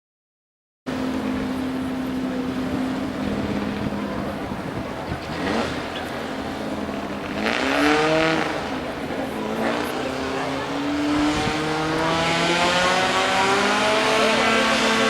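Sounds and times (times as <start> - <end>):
race car engine revving: 0.9 - 15.0.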